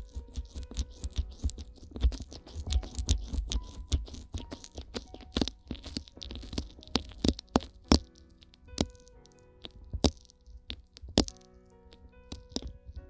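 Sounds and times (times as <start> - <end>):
soft background music: 0.0 - 13.0
wet crackles of fingers rubbing ears: 0.0 - 13.0.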